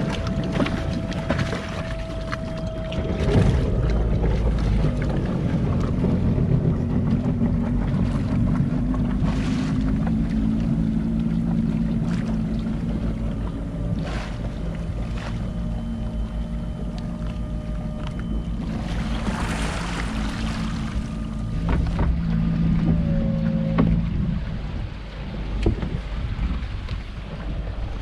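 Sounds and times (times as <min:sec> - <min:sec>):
boat engine running: 0:00.0 - 0:28.0
water churning and splashing: 0:00.0 - 0:28.0.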